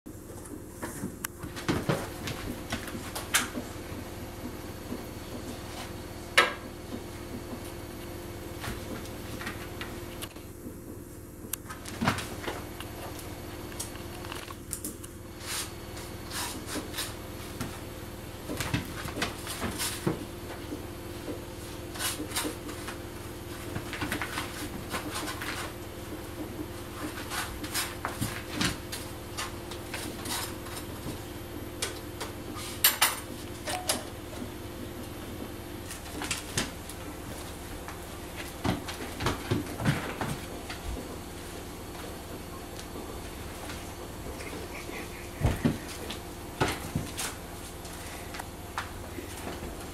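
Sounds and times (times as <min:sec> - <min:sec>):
faint hum: 0:00.1 - 0:49.9.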